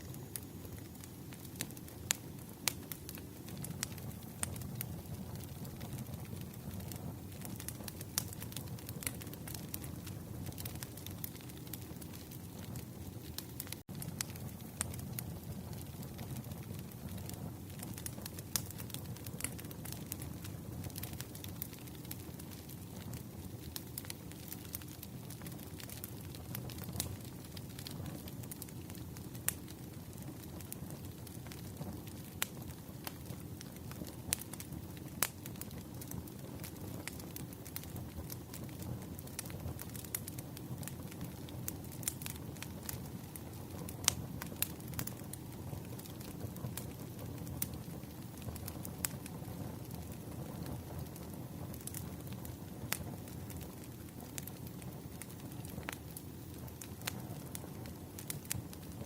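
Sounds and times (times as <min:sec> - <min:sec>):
fire crackles and pops: 0:00.0 - 0:59.0
wood fire rumbling: 0:00.0 - 0:59.0.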